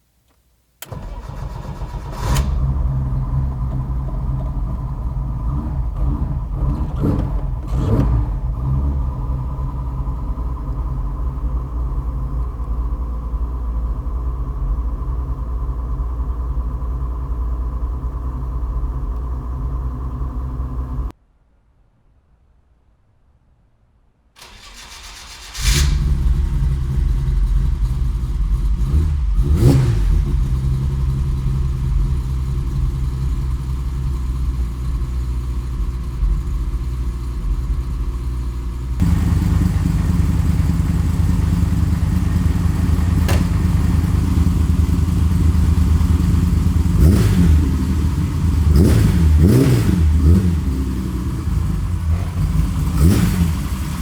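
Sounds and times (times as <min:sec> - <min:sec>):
car engine starting and idling: 0:00.3 - 0:21.2, 0:24.4 - 0:54.0
engine throttle blips: 0:00.8 - 0:21.1, 0:24.4 - 0:54.0.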